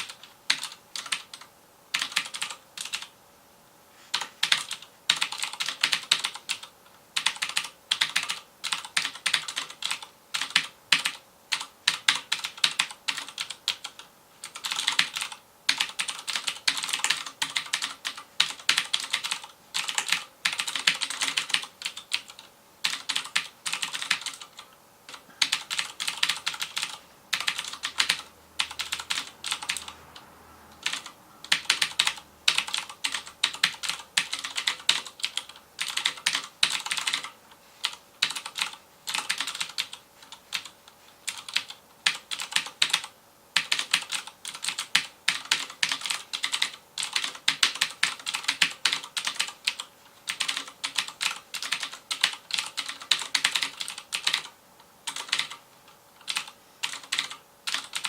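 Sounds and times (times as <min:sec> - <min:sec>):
clicky mechanical keyboard typing: 0:00.0 - 0:03.1, 0:04.1 - 0:58.0.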